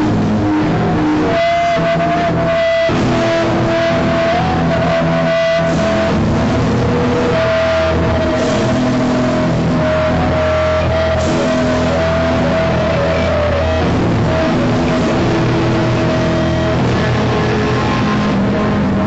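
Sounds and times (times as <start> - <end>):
electric guitar sustained notes: 0.0 - 19.0
rock band playing: 0.0 - 19.0.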